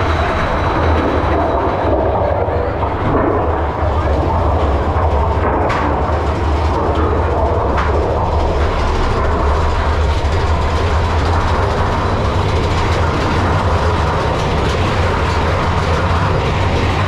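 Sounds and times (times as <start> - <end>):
roller coaster wheels rumbling: 0.0 - 17.0.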